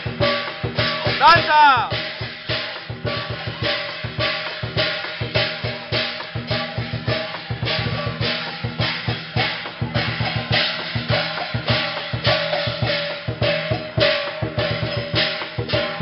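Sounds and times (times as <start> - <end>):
cymbal crashes: 0.0 - 16.0
drum beating fast: 0.0 - 16.0.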